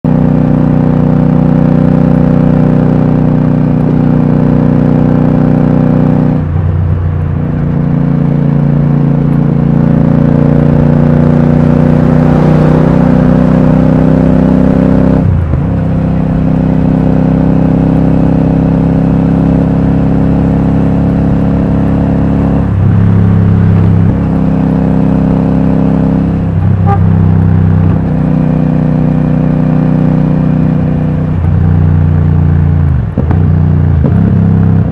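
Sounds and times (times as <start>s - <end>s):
motorcycle engine cruising: 0.1s - 34.9s.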